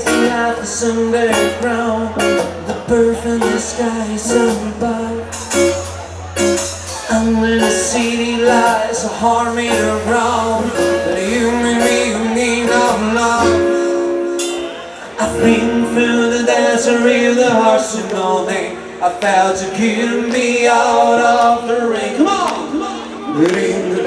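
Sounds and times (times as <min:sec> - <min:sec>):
acoustic guitar: 0:00.0 - 0:24.0
bass: 0:00.0 - 0:24.0
live band music: 0:00.0 - 0:24.0
man singing: 0:00.0 - 0:24.0.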